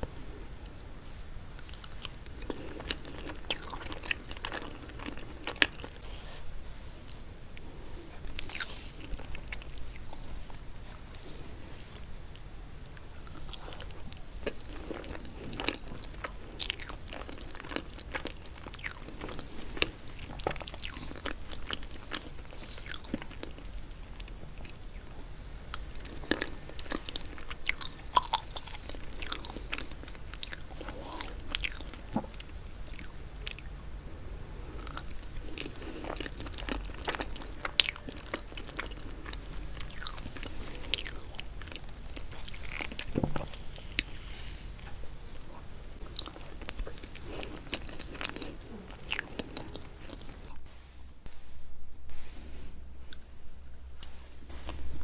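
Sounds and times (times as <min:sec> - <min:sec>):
person chewing cake: 0:01.6 - 0:33.9, 0:34.6 - 0:50.6.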